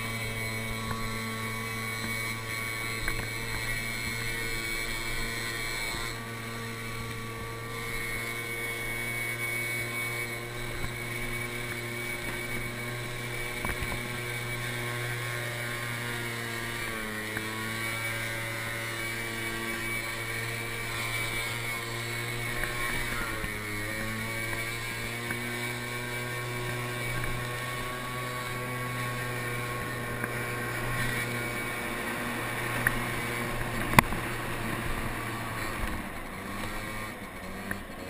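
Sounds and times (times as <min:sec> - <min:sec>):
scooter engine droning: 0:00.0 - 0:38.0.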